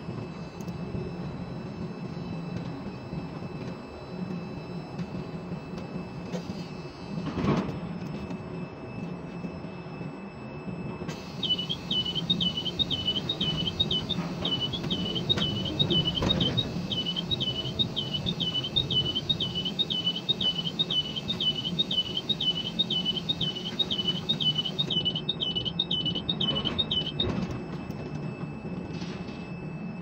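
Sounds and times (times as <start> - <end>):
crane machinery hum: 0.0 - 30.0
crane warning beeper: 0.0 - 30.0.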